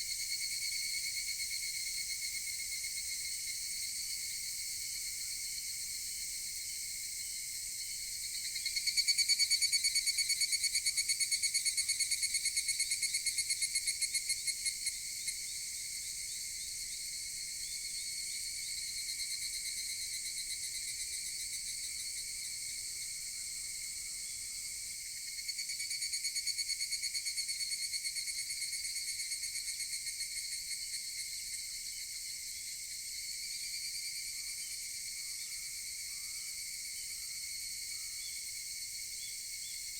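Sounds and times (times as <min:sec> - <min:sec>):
cicada chorus: 0:00.0 - 0:39.9
cicada rapid pulsed call: 0:00.0 - 0:39.9.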